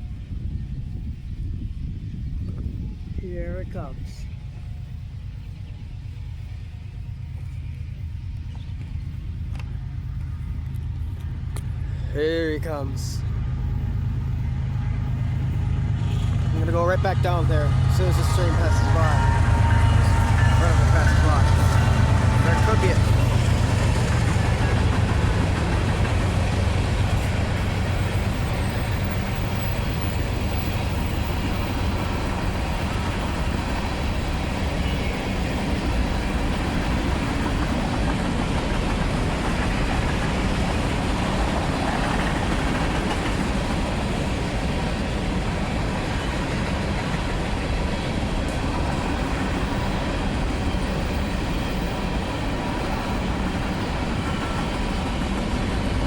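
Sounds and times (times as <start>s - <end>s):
train rumbling and rattling past: 0.0s - 56.0s.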